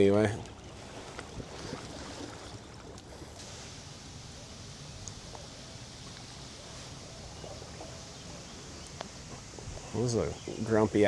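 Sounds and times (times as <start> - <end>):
faint high hiss: 0.0 - 11.0
moving floodwater: 0.0 - 11.0
wind: 0.0 - 11.0.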